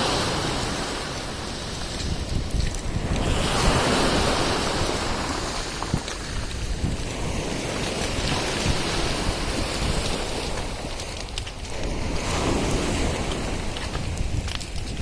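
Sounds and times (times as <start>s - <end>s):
sea surf washing ashore: 0.0s - 15.0s
wind buffeting microphone: 0.0s - 15.0s.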